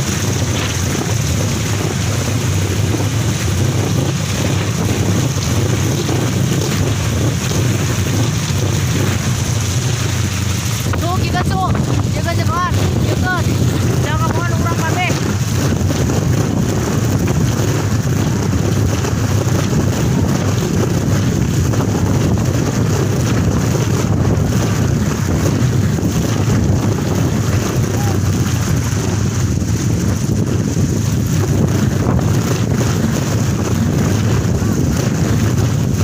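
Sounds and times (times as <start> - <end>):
wind rushing over microphone: 0.0 - 36.0
windmill propeller spinning: 0.0 - 36.0.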